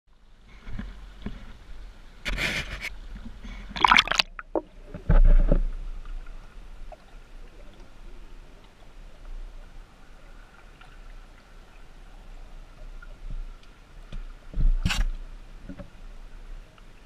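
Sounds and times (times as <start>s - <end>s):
water splashing and sloshing: 0.1s - 17.0s.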